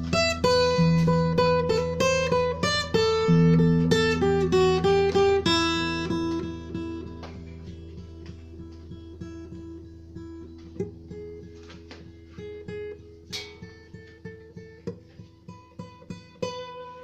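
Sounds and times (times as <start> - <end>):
acoustic guitar plucked tune: 0.0 - 17.0.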